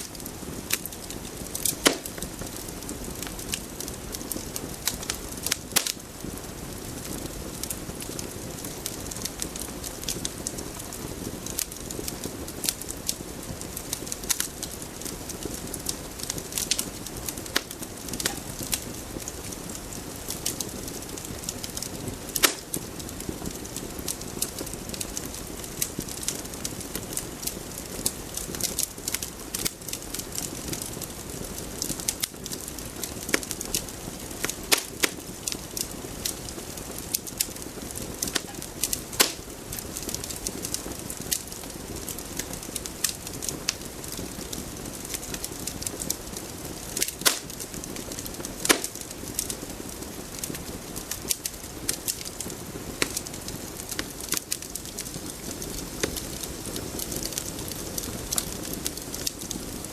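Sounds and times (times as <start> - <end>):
crackling hiss with pops: 0.0 - 59.9.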